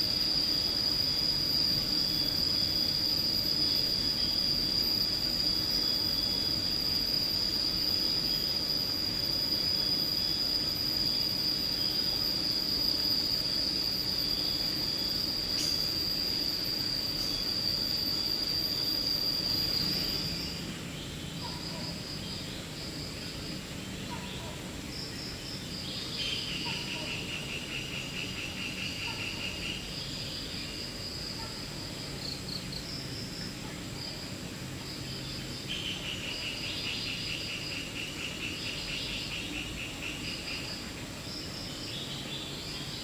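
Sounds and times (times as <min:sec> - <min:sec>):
high-pitched insect drone: 0:00.0 - 0:43.0
insect chirping calls: 0:00.0 - 0:43.0
rural background hiss: 0:00.0 - 0:43.0.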